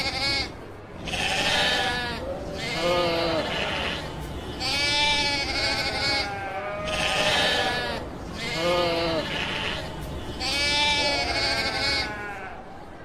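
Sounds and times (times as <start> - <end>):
sheep bleating: 0.0 - 12.6.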